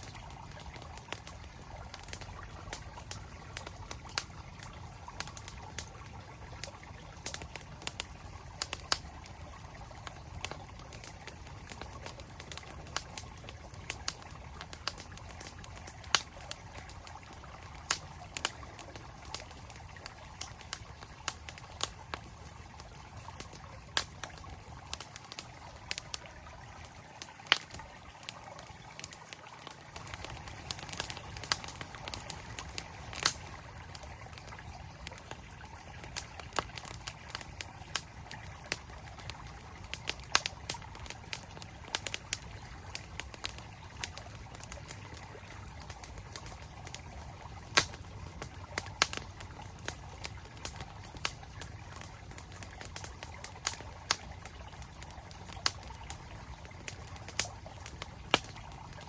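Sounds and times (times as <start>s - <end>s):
campfire crackling and popping: 0.0s - 59.0s
flowing mountain stream: 0.0s - 59.0s.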